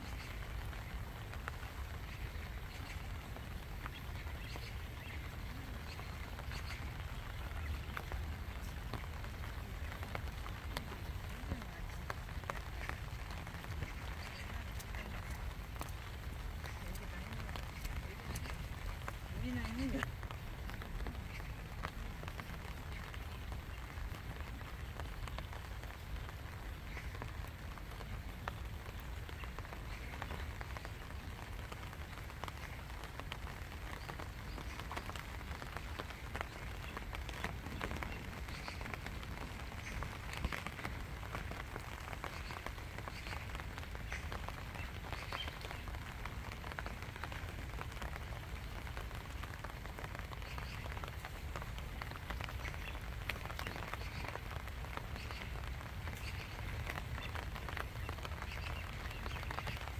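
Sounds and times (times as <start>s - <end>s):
rain falling on water: 0.0s - 59.9s.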